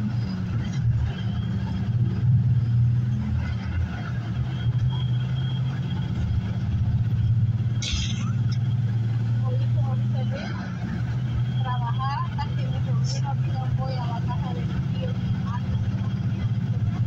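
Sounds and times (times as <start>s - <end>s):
vehicle engine and road drone: 0.0s - 17.0s.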